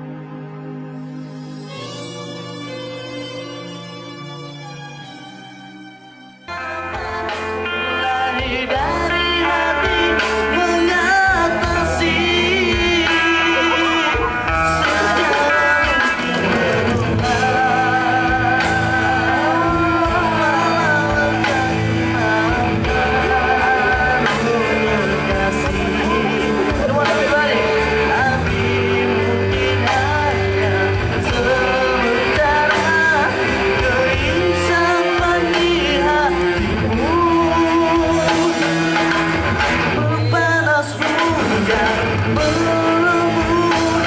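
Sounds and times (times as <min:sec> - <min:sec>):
amplified band with guitar: 0:00.0 - 0:44.0
man singing into microphone: 0:06.5 - 0:44.0.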